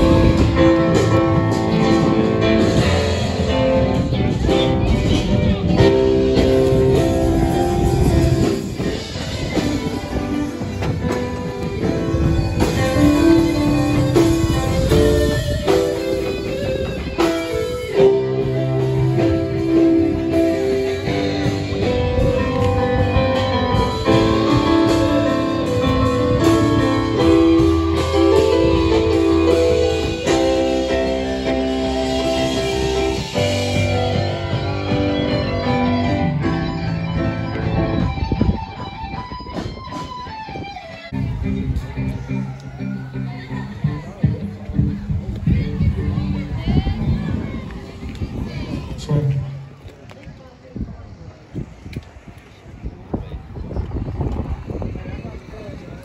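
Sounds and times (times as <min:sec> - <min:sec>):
guitar music with bass: 0:00.0 - 0:49.9.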